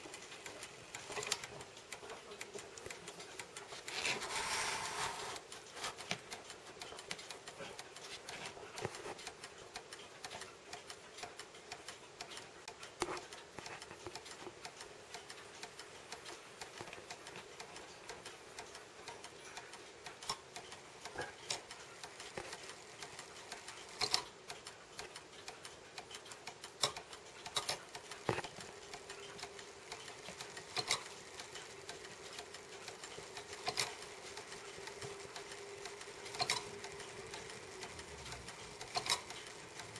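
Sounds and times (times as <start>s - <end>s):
clock movement ticking: 0.0s - 39.9s
sharp clock click: 0.0s - 39.9s.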